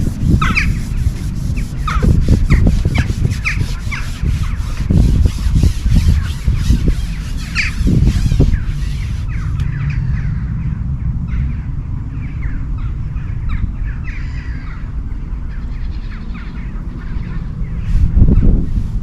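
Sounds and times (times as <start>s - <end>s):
birds chirping: 0.0s - 17.8s
wind buffeting microphone: 0.0s - 19.0s.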